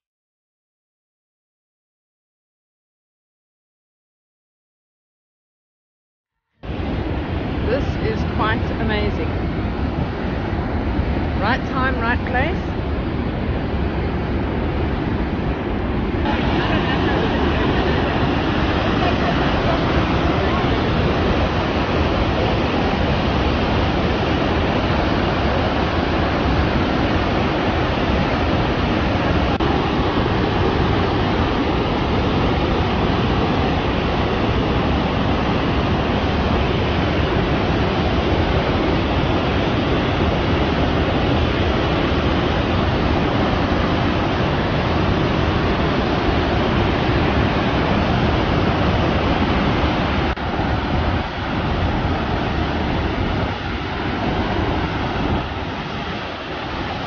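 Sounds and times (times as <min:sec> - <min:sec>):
floodwater roaring over rocks: 0:06.6 - 0:57.0.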